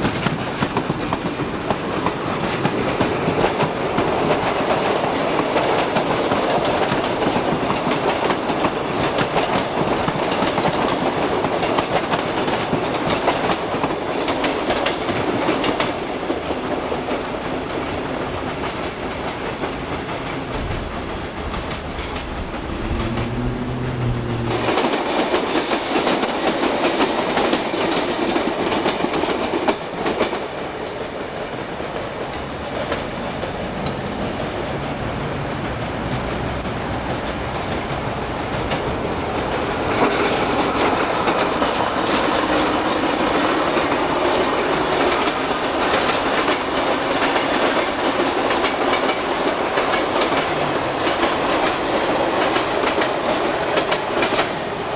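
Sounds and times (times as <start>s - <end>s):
train wheels clattering: 0.0s - 54.9s.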